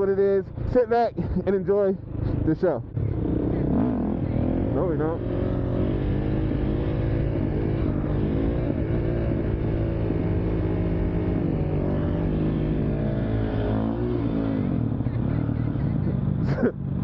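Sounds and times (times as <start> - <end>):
dirt bike engine revving: 2.0 - 17.0.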